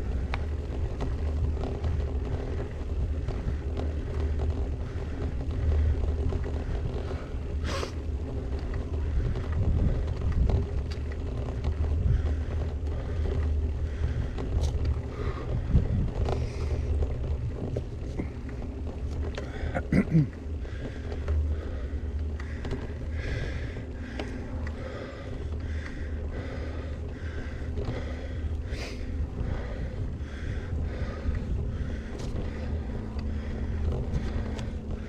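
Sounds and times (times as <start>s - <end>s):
small rattles: 0.0s - 35.0s
tyres rumbling on gravel: 0.0s - 35.0s
wind buffeting microphone: 0.0s - 35.0s.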